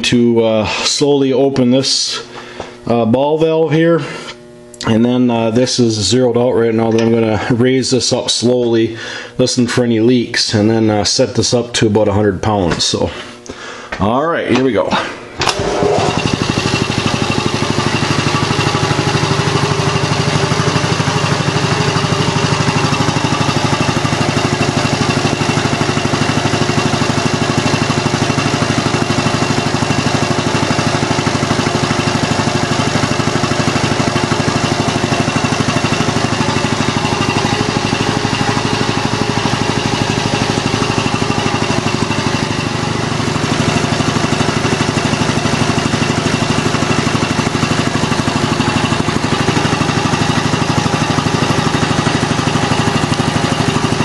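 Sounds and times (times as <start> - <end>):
air compressor chugging: 0.6 - 3.1, 6.8 - 9.5, 14.9 - 54.0.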